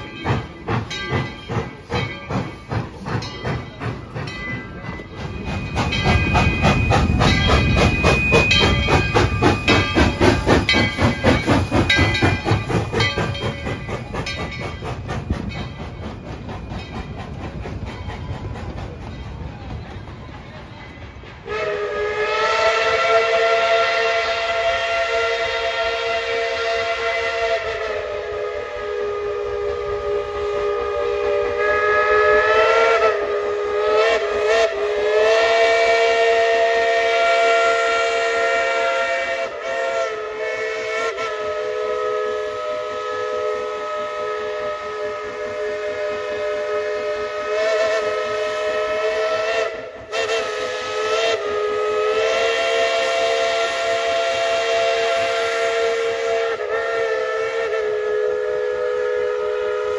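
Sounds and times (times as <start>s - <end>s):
steam locomotive whistle: 4.8s - 14.6s, 21.4s - 59.9s.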